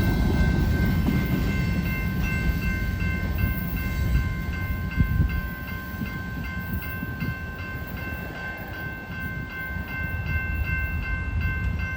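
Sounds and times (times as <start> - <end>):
crossing bell ringing: 0.0 - 11.9
freight train rumbling: 0.0 - 11.9.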